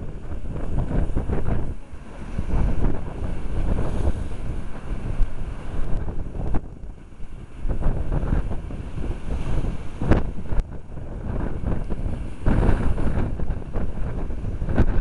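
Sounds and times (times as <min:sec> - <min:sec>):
waves breaking against sea wall: 0:00.0 - 0:15.0
wind buffeting microphone: 0:00.0 - 0:15.0.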